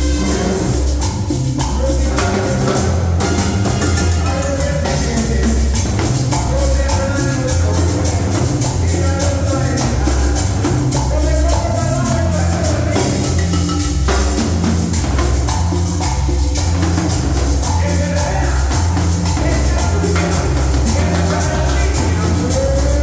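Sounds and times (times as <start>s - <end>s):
upbeat latin dance music: 0.0s - 23.0s.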